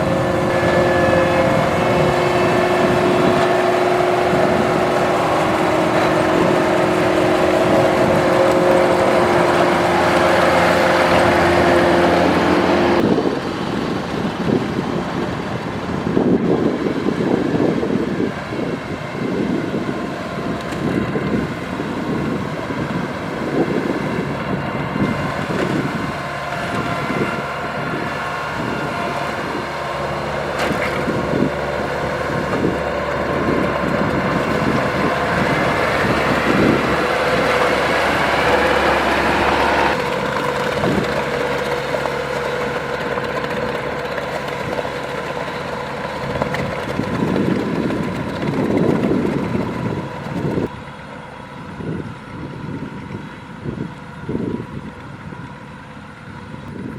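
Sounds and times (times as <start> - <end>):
machinery rattling: 0.0 - 51.2
diesel engine running: 0.0 - 56.9.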